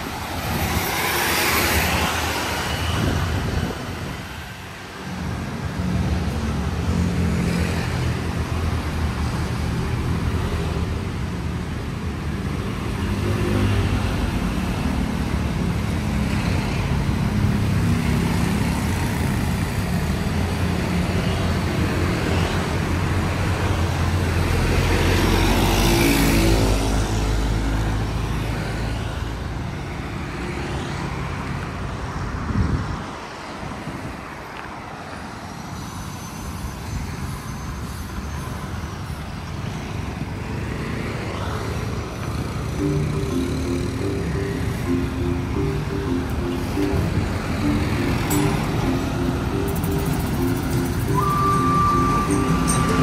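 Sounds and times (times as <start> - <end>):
road traffic: 0.0 - 53.0.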